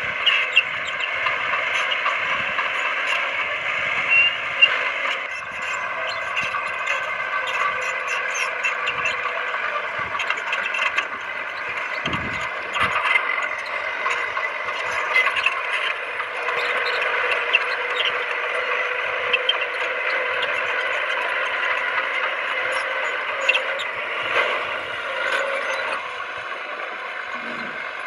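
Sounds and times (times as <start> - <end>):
bulldozer engine running: 0.0 - 28.0.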